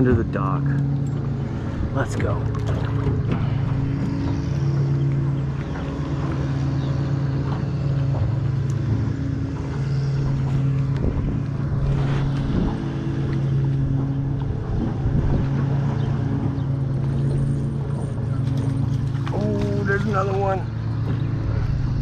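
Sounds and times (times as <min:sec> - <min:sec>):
outboard motor humming: 0:00.0 - 0:22.0.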